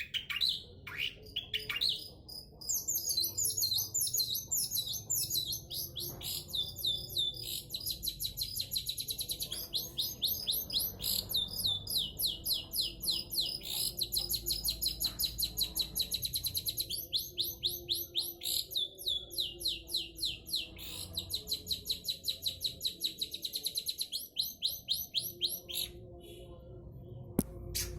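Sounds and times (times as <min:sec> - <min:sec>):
bird singing sweeping notes: 0:00.0 - 0:26.4.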